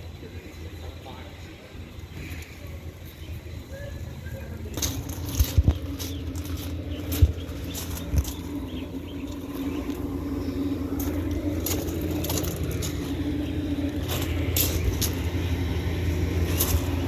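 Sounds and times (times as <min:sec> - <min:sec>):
air conditioner hum: 0:00.0 - 0:17.0.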